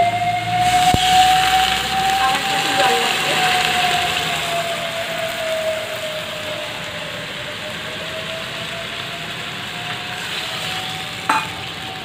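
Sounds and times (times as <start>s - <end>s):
vegetables sizzling in oil: 0.4s - 12.0s.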